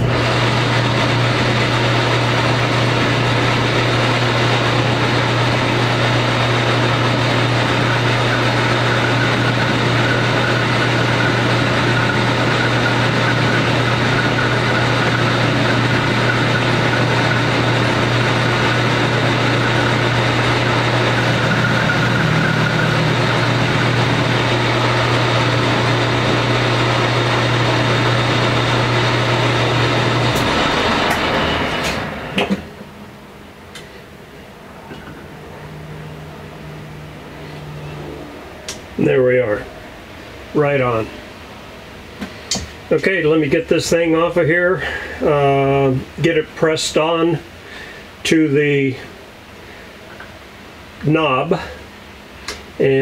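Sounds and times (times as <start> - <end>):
metal lathe motor humming: 0.0 - 46.3
thin high whine: 1.7 - 47.5.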